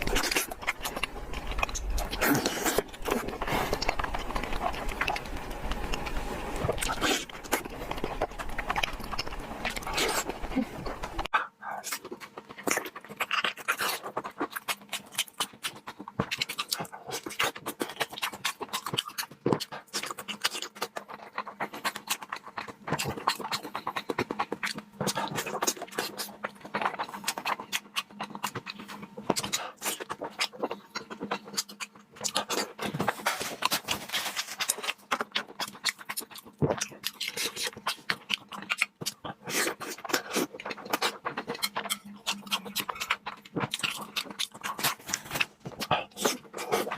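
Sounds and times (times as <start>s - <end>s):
faint steady hum: 0.0s - 46.9s
wet chewing and lip-smacking: 0.0s - 46.9s.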